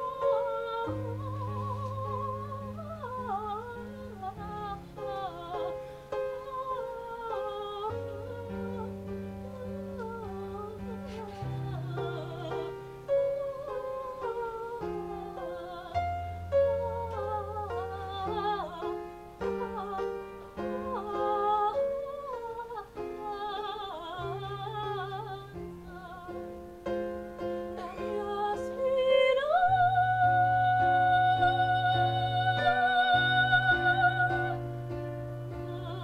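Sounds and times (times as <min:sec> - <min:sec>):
woman singing operatically: 0:00.0 - 0:26.7, 0:27.7 - 0:36.0.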